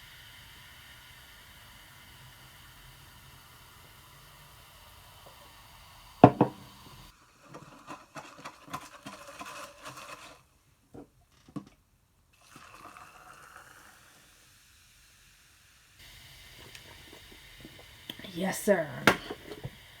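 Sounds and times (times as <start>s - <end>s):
soda poured into a cup fizzing: 0.0s - 10.7s, 12.3s - 20.0s.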